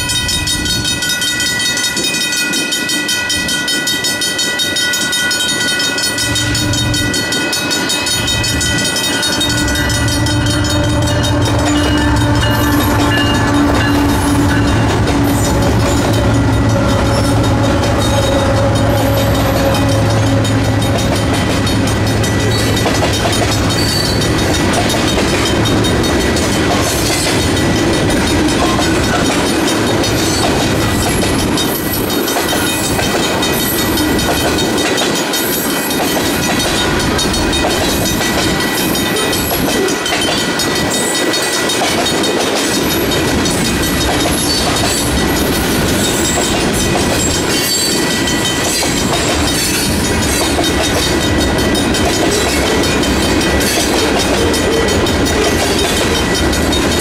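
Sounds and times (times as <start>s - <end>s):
crossing bells ringing: 0.0s - 57.0s
train wheels clacking on rail joints: 0.0s - 57.0s
diesel locomotive engine drone: 5.1s - 57.0s.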